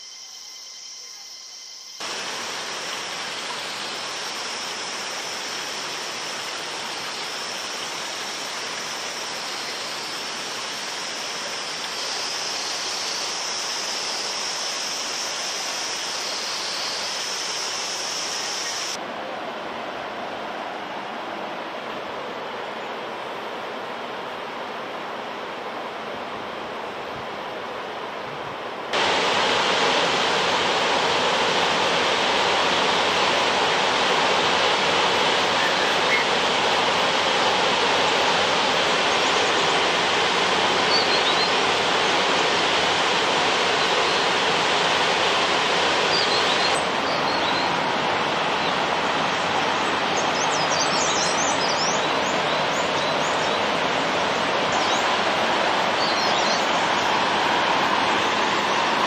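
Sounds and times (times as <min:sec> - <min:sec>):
waterfall rushing: 0:02.0 - 0:22.2, 0:28.9 - 0:59.0.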